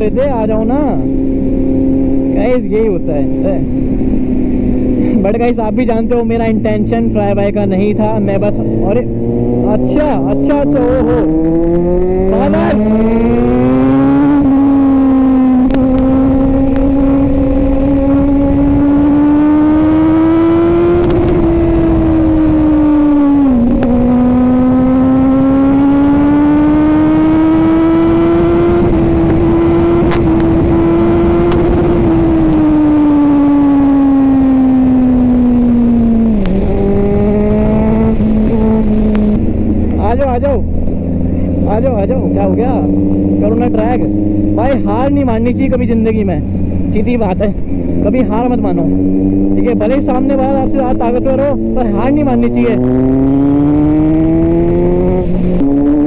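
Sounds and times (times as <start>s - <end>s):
motorcycle engine revving high: 0.0s - 56.0s
wind noise: 0.0s - 56.0s.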